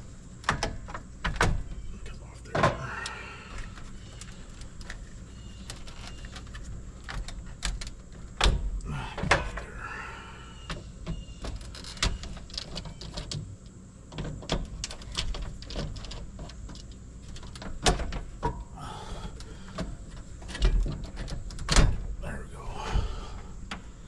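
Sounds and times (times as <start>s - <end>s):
clicks and rattles of wiring work: 0.3s - 9.7s, 10.7s - 22.2s.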